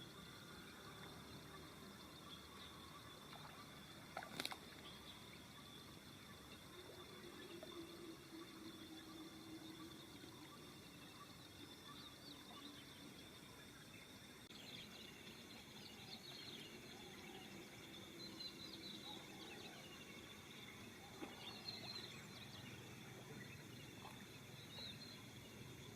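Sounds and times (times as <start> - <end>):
steady low background noise: 0.0 - 25.9.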